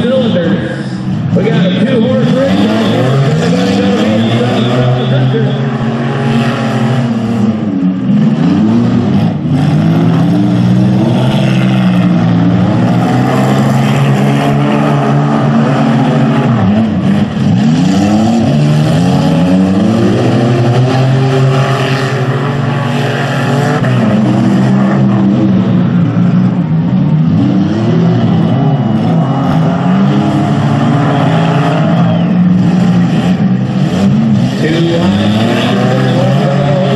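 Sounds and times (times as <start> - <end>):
car engines running hard: 0.0 - 36.9.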